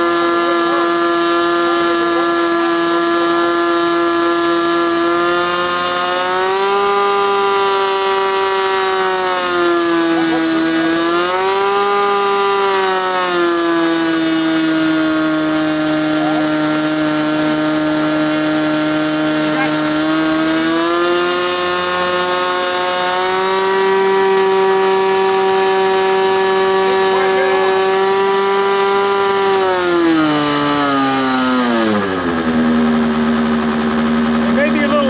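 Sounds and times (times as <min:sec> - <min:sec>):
model airplane engine running: 0:00.0 - 0:35.0.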